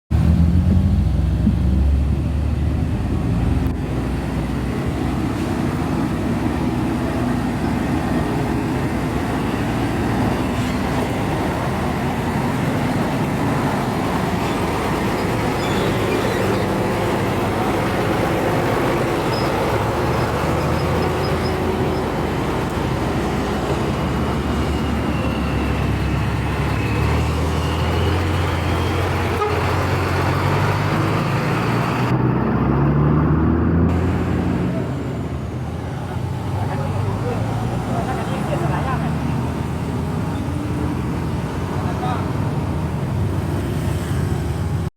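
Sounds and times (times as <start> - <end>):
heavy truck engines running: 0.1 - 44.9
road traffic noise: 0.1 - 44.9.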